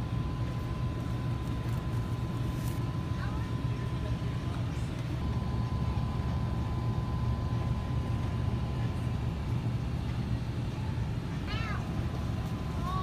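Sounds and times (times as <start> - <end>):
refrigerated cases humming: 0.0 - 13.0.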